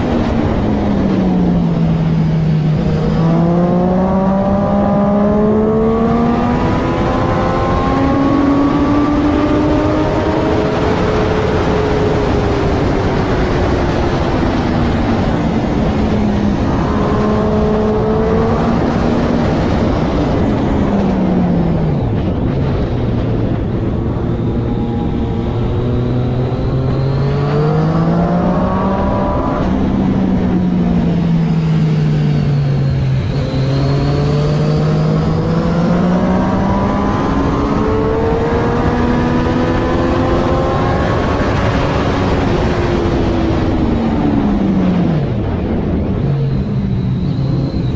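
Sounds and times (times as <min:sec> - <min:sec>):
constant rushing noise: 0:00.0 - 0:47.9
motorcycle engine at racing speed: 0:00.0 - 0:47.9.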